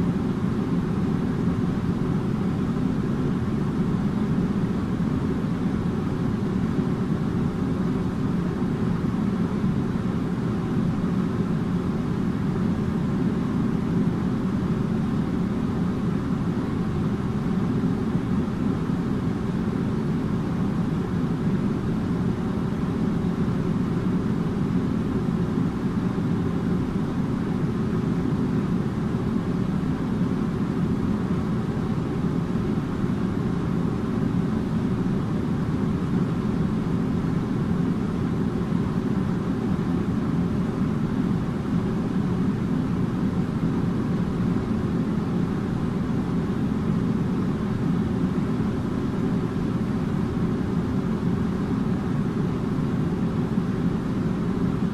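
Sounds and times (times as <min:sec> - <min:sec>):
air conditioner running: 0:00.0 - 0:54.9.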